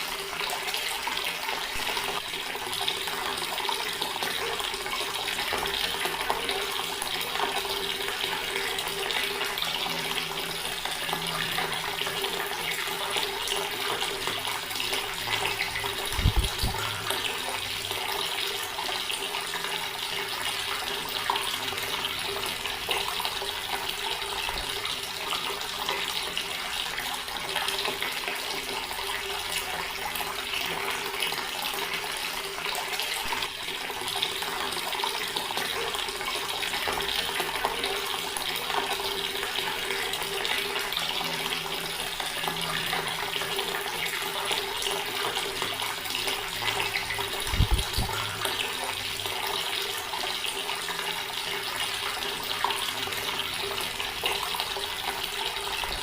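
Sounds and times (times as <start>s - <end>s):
tap water splashing into basin: 0.0s - 56.0s.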